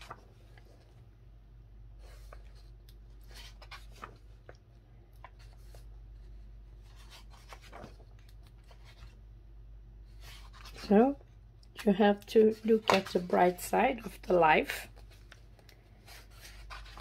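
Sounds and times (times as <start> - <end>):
magazine pages rustling: 0.0 - 1.0, 2.0 - 9.2, 10.0 - 11.2, 11.8 - 17.0
low steady hum: 0.0 - 17.0.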